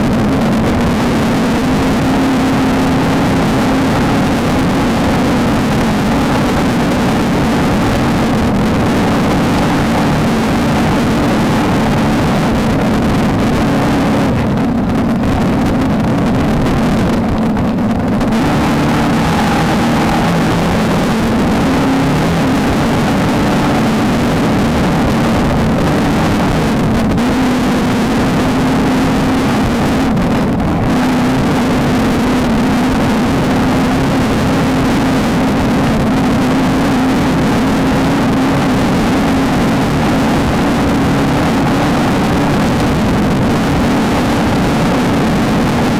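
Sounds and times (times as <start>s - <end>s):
engine running at high revs: 0.0s - 45.9s
loud rushing noise: 0.0s - 45.9s.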